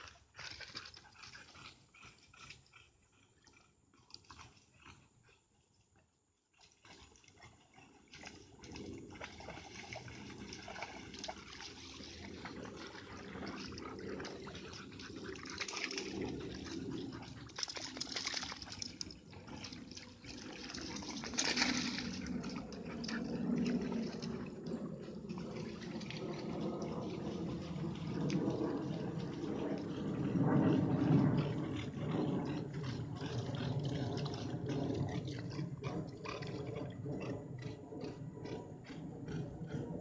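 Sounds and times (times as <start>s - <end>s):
water splashing and running: 0.0s - 2.6s, 6.6s - 36.8s.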